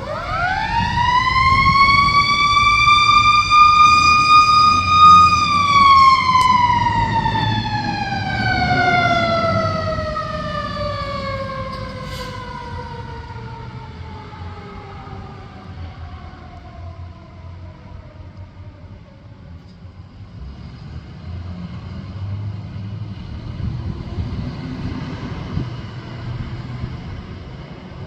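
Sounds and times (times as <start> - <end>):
fire engine siren wailing: 0.0 - 20.4, 22.9 - 28.0
truck engine rumble: 0.0 - 28.0.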